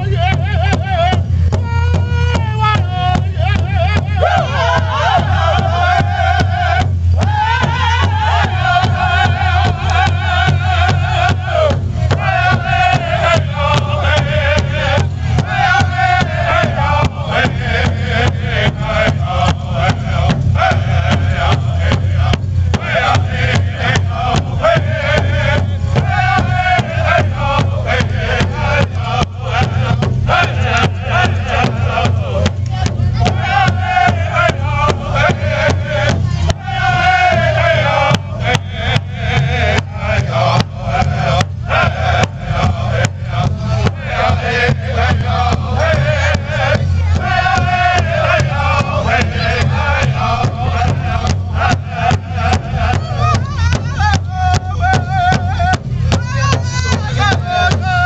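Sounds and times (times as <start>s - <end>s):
large drum beat: 0.0s - 58.0s
men singing in unison: 0.0s - 58.0s.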